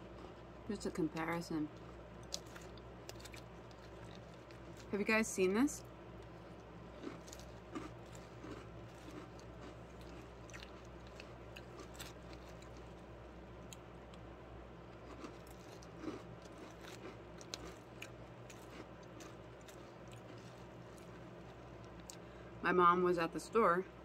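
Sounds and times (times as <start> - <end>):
chewing crunchy cereal: 0.0 - 14.2, 14.8 - 22.3.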